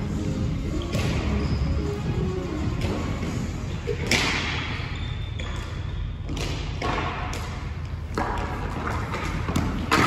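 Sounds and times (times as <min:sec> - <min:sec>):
low rink hum: 0:00.0 - 0:10.0.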